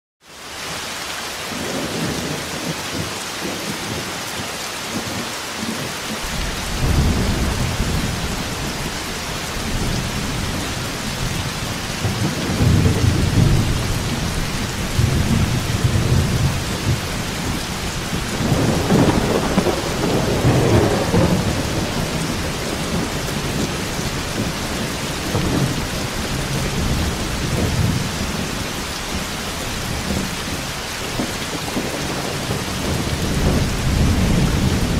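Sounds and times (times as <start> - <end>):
heavy rain hissing: 0.4 - 34.9
thunder rolling: 6.2 - 34.9.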